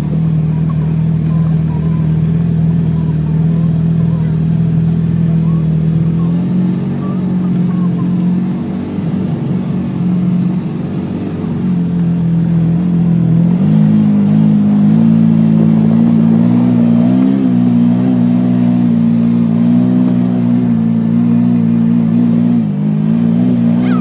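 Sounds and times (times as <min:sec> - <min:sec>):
utility vehicle engine running: 0:00.0 - 0:24.0.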